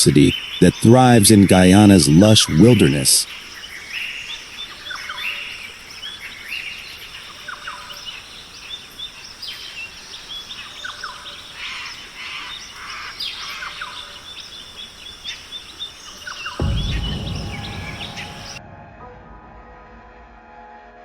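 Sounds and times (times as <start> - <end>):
birds chirping and calling: 0.0 - 18.6.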